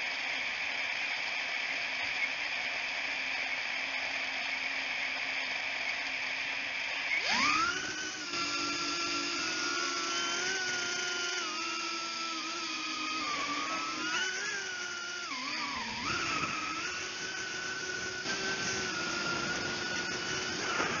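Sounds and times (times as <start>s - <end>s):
drone motors whining: 0.1s - 21.0s.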